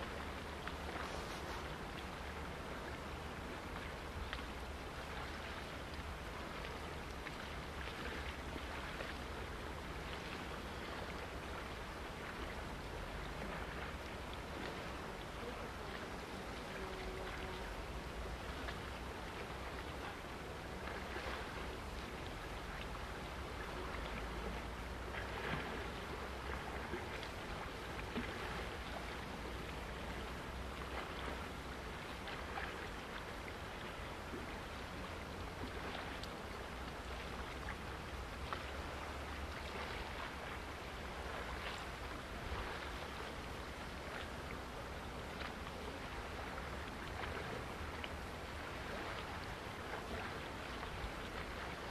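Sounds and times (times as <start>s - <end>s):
choppy water washing on shore: 0.0s - 51.9s
faint splashes: 0.0s - 51.9s.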